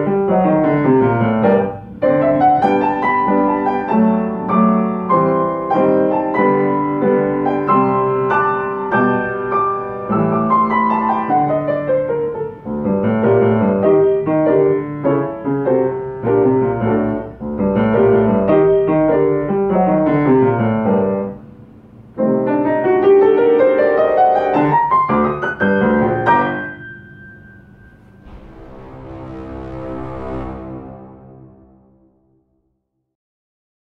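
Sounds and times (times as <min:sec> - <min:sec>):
solo piano playing fast: 0:00.0 - 0:21.4, 0:22.2 - 0:28.2.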